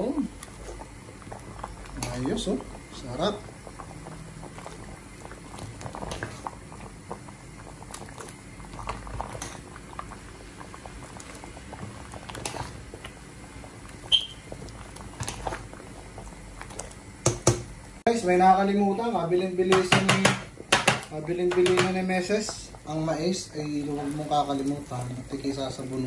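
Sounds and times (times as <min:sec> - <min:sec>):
thick liquid bubbling in pot: 0:00.0 - 0:26.0.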